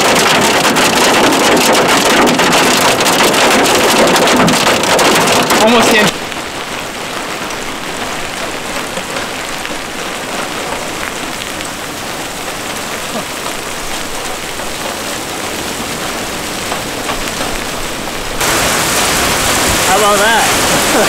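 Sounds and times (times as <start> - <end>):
hail on wet concrete: 0.0 - 21.0.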